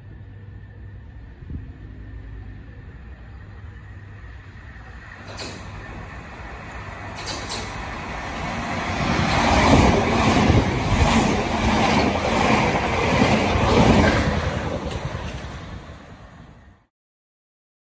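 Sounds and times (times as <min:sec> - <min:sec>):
electric train passing: 0:00.0 - 0:16.9.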